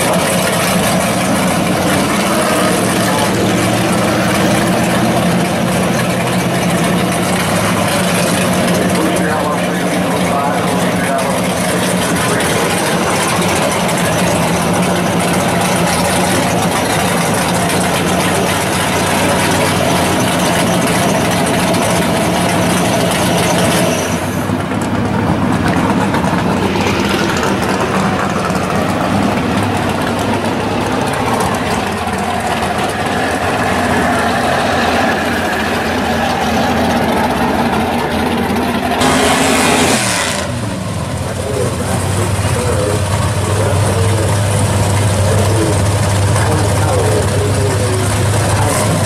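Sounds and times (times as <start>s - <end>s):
car engine idling loudly: 0.0s - 49.0s
engine revving: 0.0s - 49.0s.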